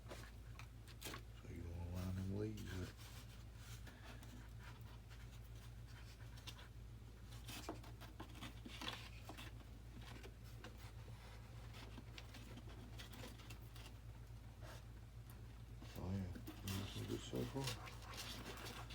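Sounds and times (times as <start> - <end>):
scratching and clicks of small parts: 0.0 - 1.4, 2.6 - 18.9
low steady hum: 0.0 - 18.9.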